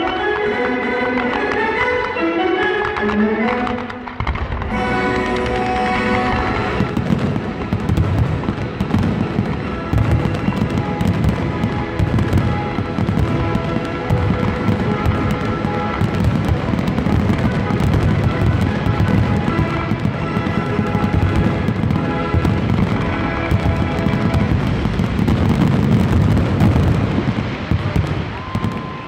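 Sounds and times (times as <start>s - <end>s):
loud music: 0.0s - 27.4s
fireworks bangs and crackles: 0.0s - 29.0s.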